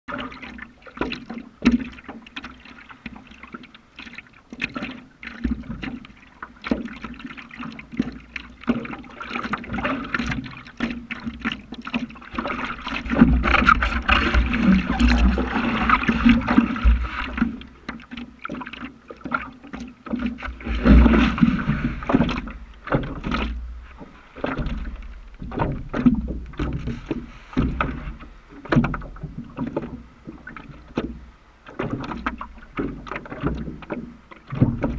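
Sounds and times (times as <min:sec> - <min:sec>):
paddle strokes in water: 0:00.1 - 0:34.9
water sloshing against paddleboard: 0:00.1 - 0:34.9.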